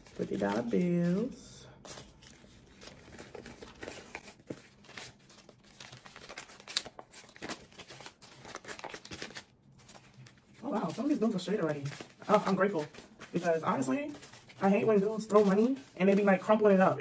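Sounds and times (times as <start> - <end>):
paper banknotes rustling: 0.0 - 17.0.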